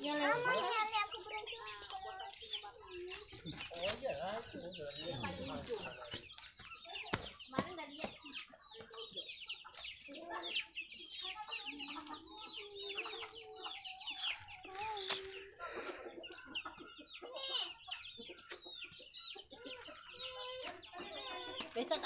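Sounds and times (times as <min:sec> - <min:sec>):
chickens clucking and calling: 0:00.0 - 0:22.0.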